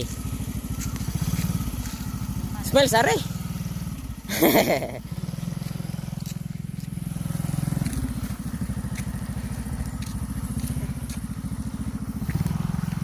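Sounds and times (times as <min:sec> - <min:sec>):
small motorcycle engine chugging: 0:00.0 - 0:13.0.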